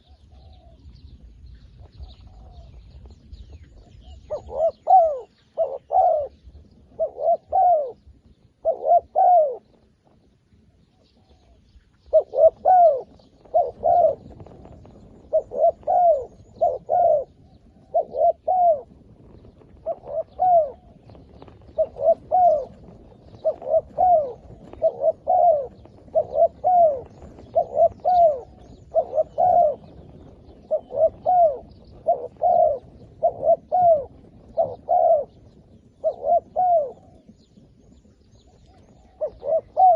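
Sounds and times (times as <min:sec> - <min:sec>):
dove cooing: 0:00.0 - 0:10.2, 0:10.8 - 0:39.9.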